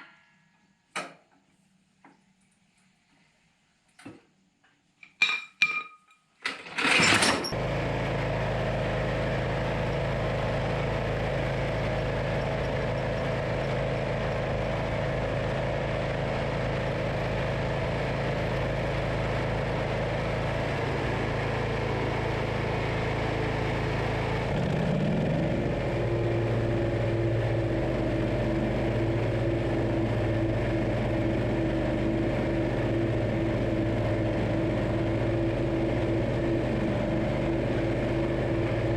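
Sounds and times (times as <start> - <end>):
riding mower engine running: 6.5 - 38.9.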